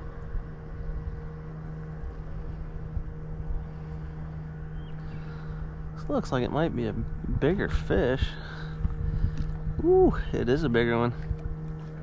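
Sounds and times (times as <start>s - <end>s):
pedal drive low hum: 0.0s - 12.0s
wind and water rumble: 0.0s - 12.0s.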